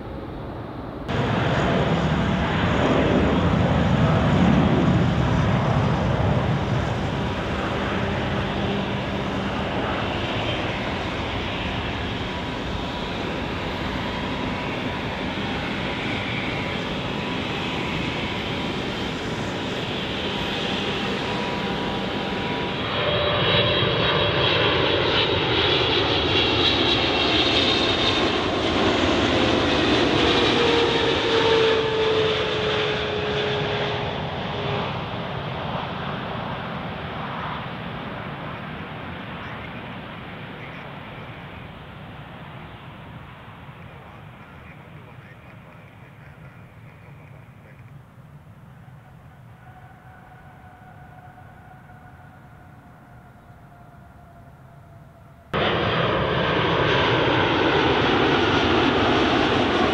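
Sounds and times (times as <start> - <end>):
jet engines on takeoff: 0.0 - 59.9
jet plane passing on approach: 0.0 - 59.9.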